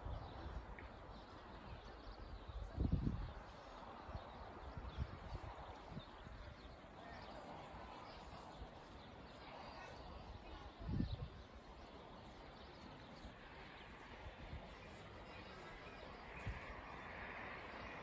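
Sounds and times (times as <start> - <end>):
distant town hum: 0.0 - 18.0.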